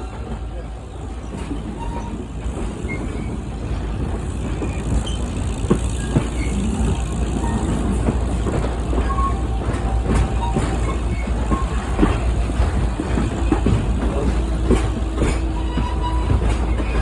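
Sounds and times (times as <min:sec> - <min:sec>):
train rumbling and rolling: 0:00.0 - 0:17.0.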